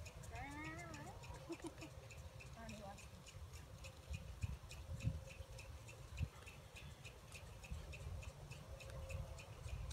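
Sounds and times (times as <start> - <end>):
faint regular ticking: 0.0 - 9.9.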